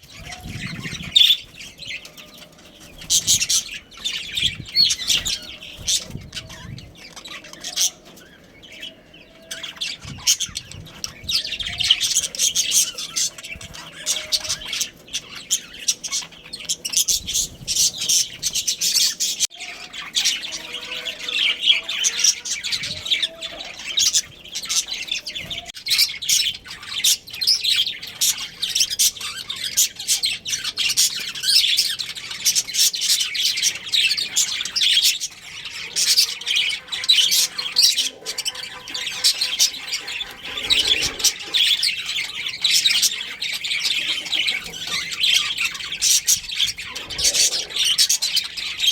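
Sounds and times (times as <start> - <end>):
bird squawk: 0.0 - 48.9
budgerigars chirping and chattering: 0.0 - 48.9.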